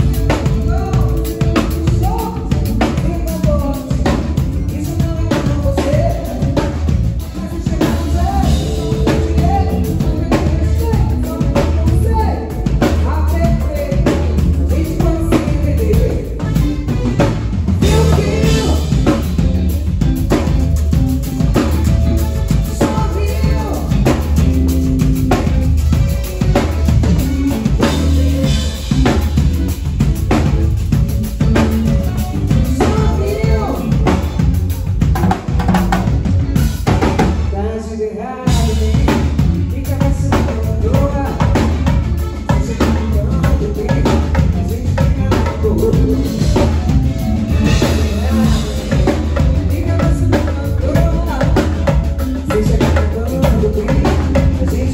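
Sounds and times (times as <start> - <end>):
drum kit: 0.0 - 37.8, 38.5 - 54.9
live band playing: 0.0 - 54.9
person singing: 0.0 - 54.9.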